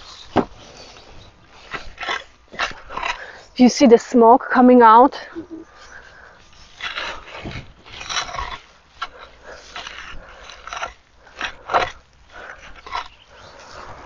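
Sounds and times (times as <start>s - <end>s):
cultivator scraping through compost: 0.0s - 14.0s.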